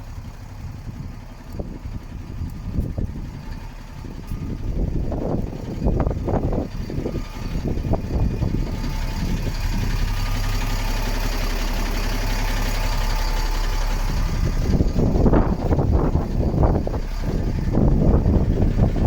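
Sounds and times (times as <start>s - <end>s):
diesel truck engine idling: 0.0s - 19.0s
louder low rumbles: 0.0s - 19.0s.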